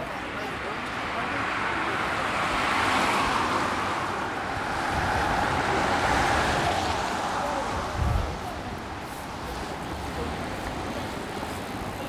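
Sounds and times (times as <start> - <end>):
passing cars: 0.0 - 12.0.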